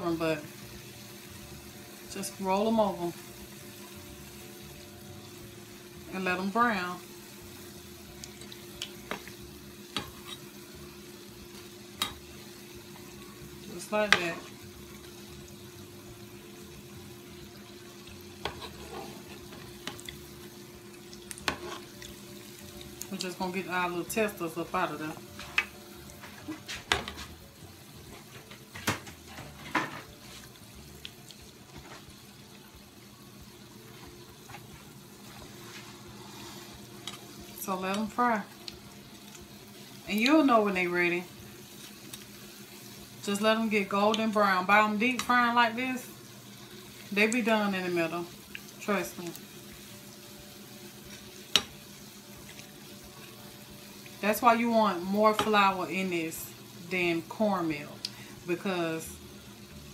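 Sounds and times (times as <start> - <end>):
grease sizzling: 0.0 - 59.9.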